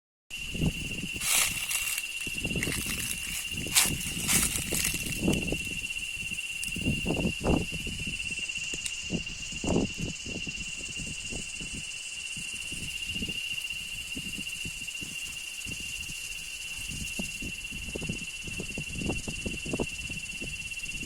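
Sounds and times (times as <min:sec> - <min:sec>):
high-pitched insect drone: 0:00.3 - 0:21.0.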